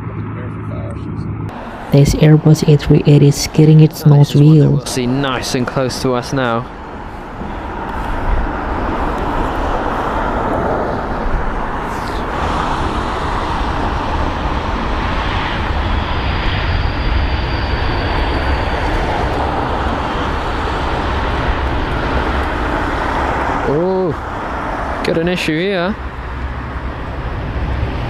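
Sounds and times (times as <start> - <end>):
jet engines rushing and rumbling: 0.0 - 28.0
wind buffeting microphone: 0.1 - 28.0.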